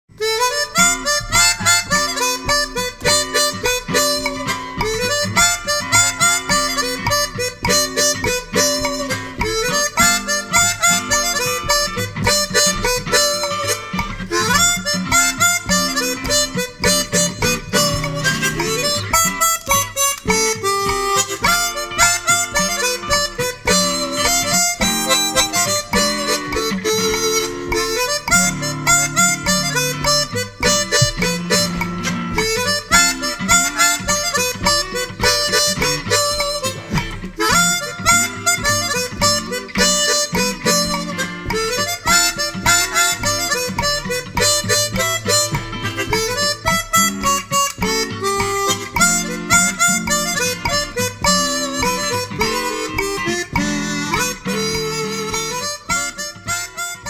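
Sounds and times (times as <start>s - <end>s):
harmonica playing blues: 0.1s - 57.0s.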